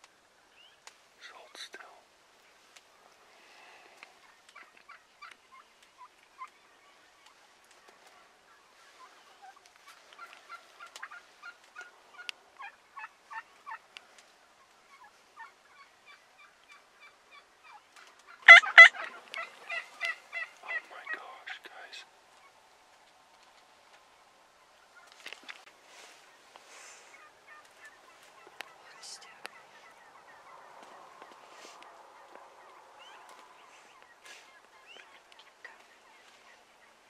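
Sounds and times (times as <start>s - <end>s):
wild turkeys calling: 0.5s - 37.0s.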